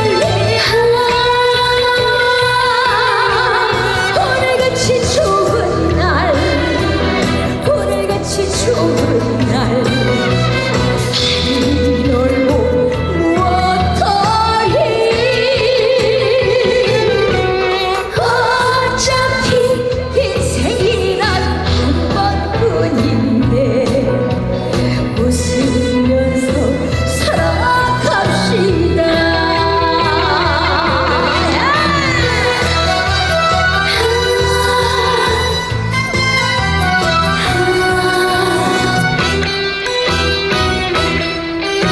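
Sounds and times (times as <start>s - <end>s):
woman singing: 0.0s - 39.9s
band playing beat and bass: 0.0s - 41.9s.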